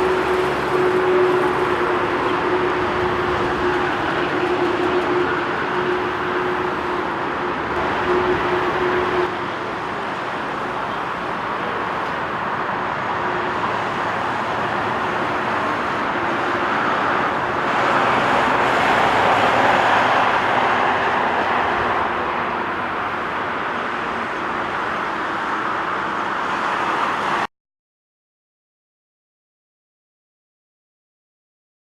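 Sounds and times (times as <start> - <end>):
jet engine noise: 0.0 - 27.5.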